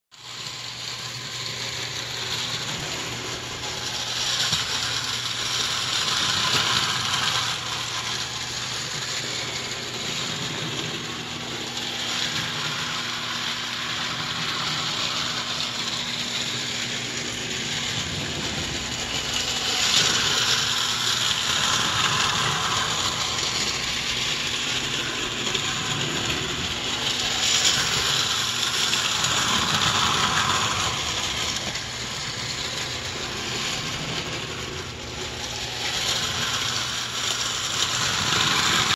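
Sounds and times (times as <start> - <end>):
toy train whirring and rattling: 0.1 - 38.9.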